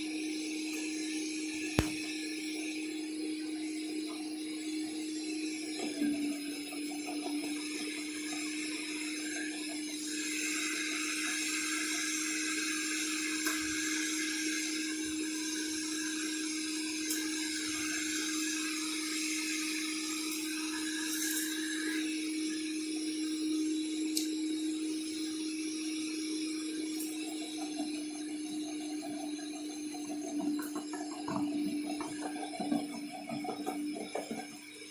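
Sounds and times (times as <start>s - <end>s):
wood chipper motor whine: 0.0s - 34.9s.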